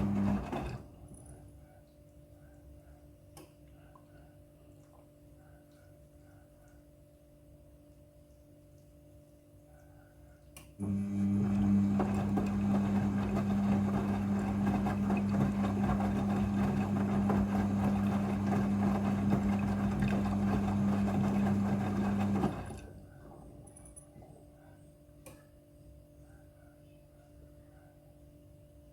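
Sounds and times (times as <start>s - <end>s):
washing machine electric hum: 0.0s - 28.9s.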